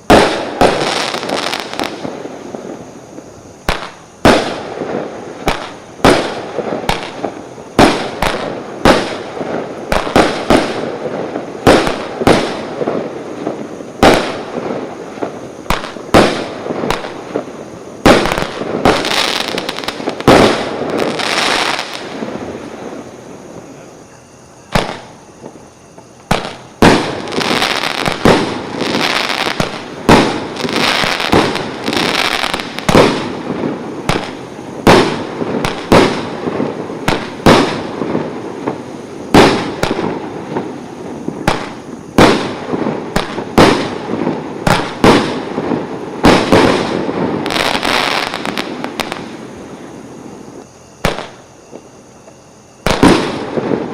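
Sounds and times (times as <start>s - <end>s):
fireworks shots crackling: 0.0s - 53.9s.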